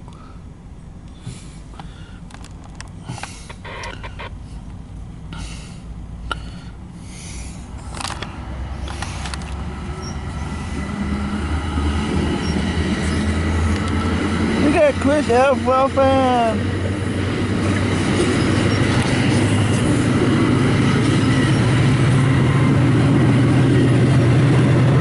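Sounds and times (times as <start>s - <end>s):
diesel train engine approaching: 0.0s - 25.0s.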